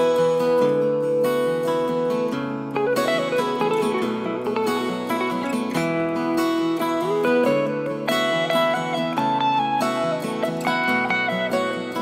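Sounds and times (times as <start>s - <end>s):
acoustic guitar tune: 0.0s - 12.0s.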